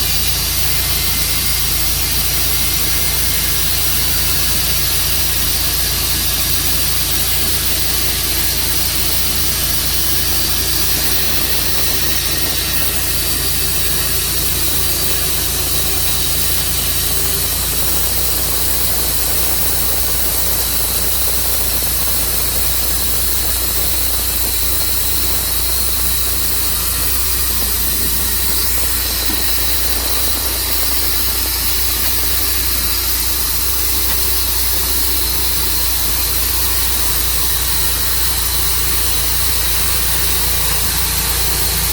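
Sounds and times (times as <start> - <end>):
sawmill engine humming: 0.0 - 41.9.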